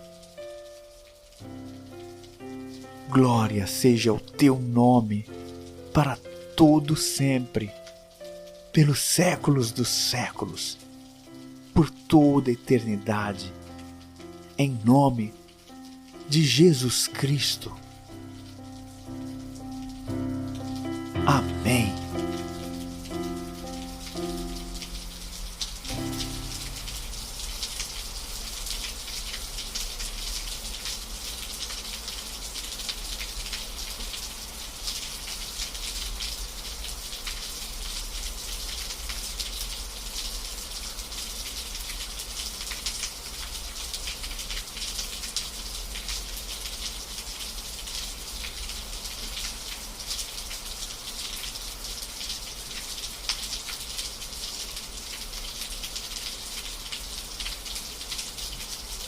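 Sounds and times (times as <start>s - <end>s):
rain drop ticks: 0.0s - 59.0s
rain hiss: 0.0s - 59.0s.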